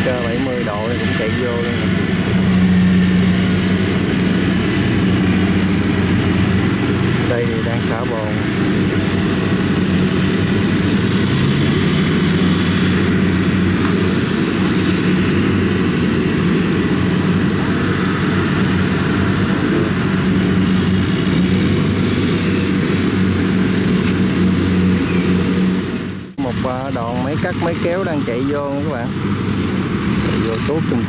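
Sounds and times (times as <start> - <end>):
diesel engines droning: 0.0 - 31.0.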